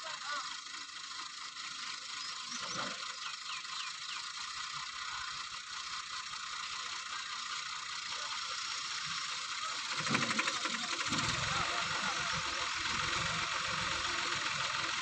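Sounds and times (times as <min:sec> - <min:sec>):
drilling rig clattering: 0:00.0 - 0:15.0.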